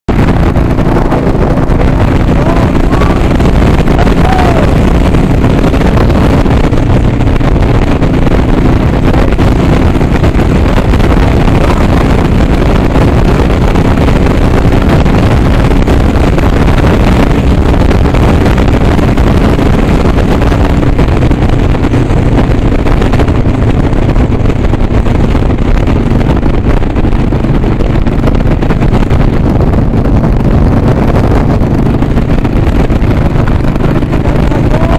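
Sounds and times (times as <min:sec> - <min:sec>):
motorcycle engine running: 0:00.0 - 0:34.9
wind over microphone: 0:00.1 - 0:34.9.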